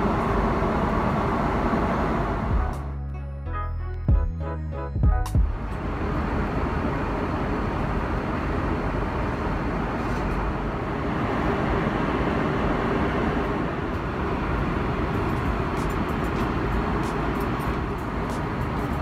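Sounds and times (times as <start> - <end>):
airplane cabin noise: 0.0 - 2.9, 5.3 - 19.0.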